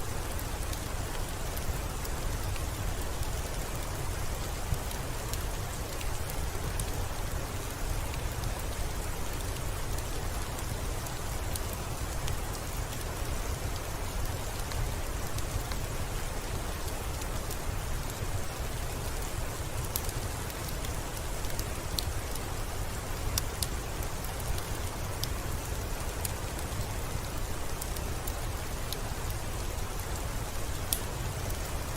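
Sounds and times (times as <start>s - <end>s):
steady soft rain: 0.0s - 31.9s.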